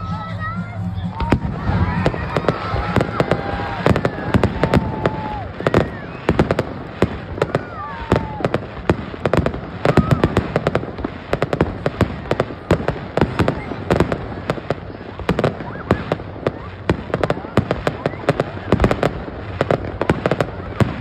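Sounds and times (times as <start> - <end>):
fireworks bangs and pops: 0.9 - 21.0.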